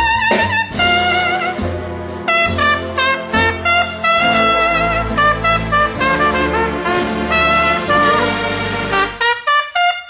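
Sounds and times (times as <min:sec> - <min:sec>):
jazz band accompaniment: 0:00.0 - 0:10.0
trumpet-like brass melody: 0:00.0 - 0:10.0.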